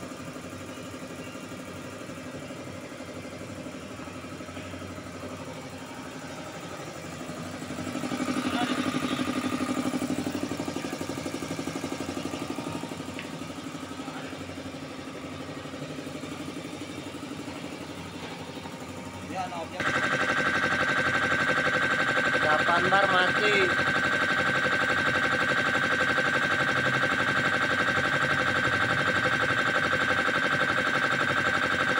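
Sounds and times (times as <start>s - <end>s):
air compressor pulsing: 0.0s - 31.9s.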